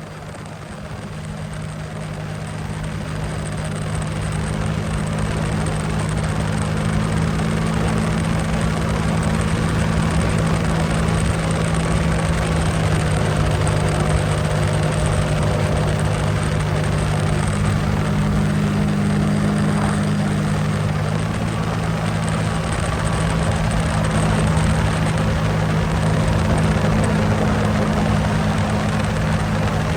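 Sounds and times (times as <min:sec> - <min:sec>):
jet ski engine running: 0:00.0 - 0:29.9.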